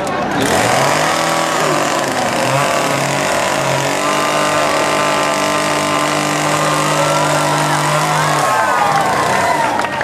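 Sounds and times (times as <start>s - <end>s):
chainsaw engine running: 0.0s - 10.0s.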